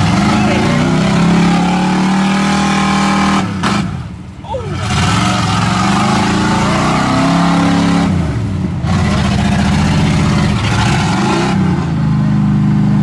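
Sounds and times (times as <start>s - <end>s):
truck engine revving in mud: 0.0s - 13.0s.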